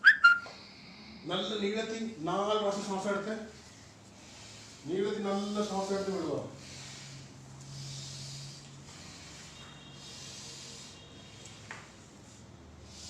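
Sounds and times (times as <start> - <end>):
person breathing deeply: 0.5 - 1.5, 3.5 - 13.0.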